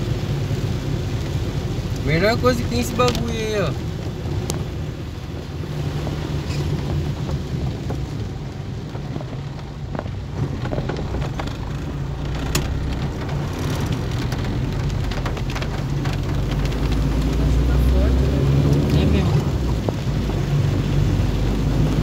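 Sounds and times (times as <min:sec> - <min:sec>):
engine and tyre hum: 0:00.0 - 0:22.0
rain on a car: 0:00.0 - 0:22.0.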